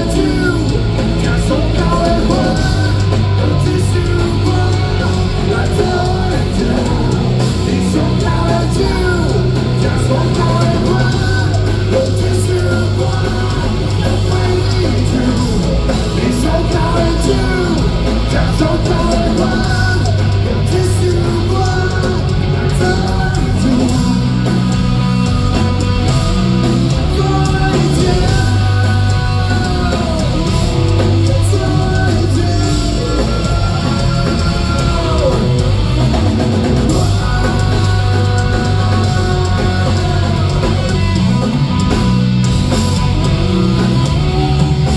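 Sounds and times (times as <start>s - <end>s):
distorted electric guitars: 0.0s - 44.9s
man singing: 0.0s - 44.9s
steady bass: 0.0s - 44.9s.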